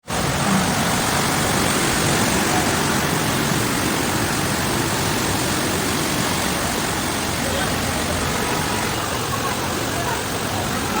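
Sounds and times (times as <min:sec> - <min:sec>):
rushing floodwater and heavy rain: 0:00.0 - 0:11.0.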